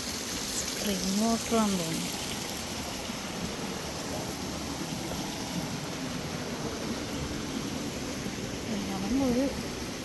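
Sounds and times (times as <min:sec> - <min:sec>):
waterfall stream rushing: 0:00.0 - 0:10.0.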